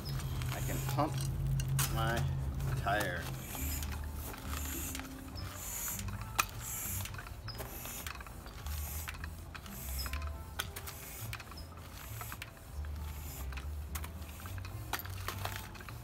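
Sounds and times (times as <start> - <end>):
bicycle pump air hiss: 0.0 - 1.2, 2.7 - 16.0
pump clicking: 2.6 - 16.0.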